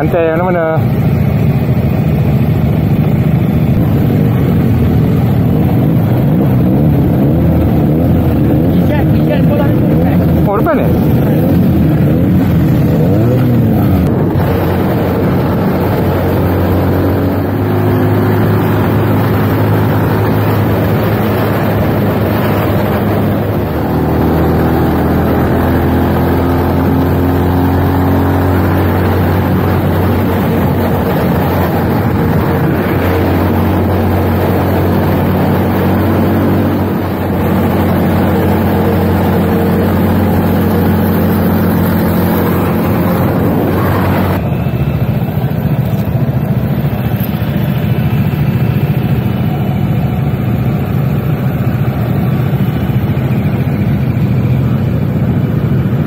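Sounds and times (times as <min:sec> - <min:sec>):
wind rushing over microphone: 0:00.0 - 0:54.2
motorcycle engine running: 0:00.0 - 0:56.0.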